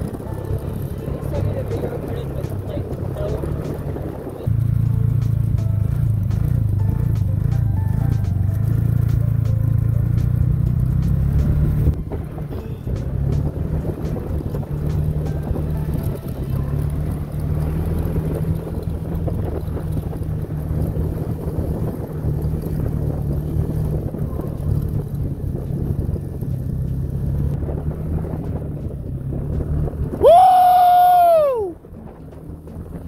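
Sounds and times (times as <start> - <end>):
wind noise on microphone: 0.0 - 4.6, 10.2 - 33.0
snowmobile engine running: 0.0 - 33.0.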